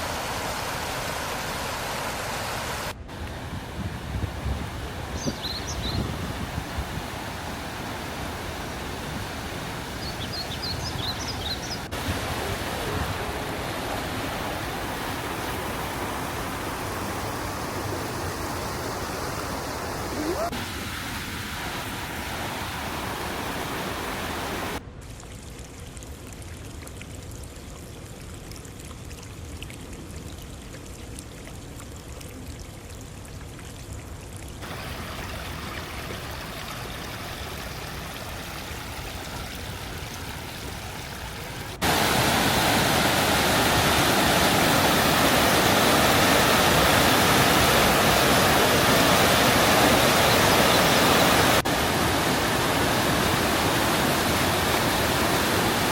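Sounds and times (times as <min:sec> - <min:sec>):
rushing mountain water: 0:00.0 - 0:55.9.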